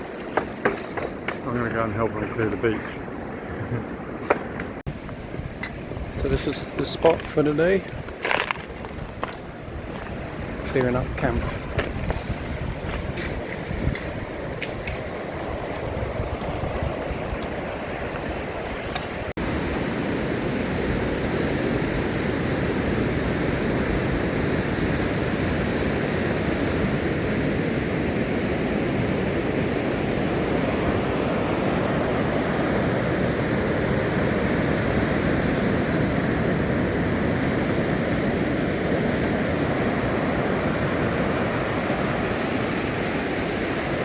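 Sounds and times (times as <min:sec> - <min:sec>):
ocean surf: 0:00.0 - 0:44.0.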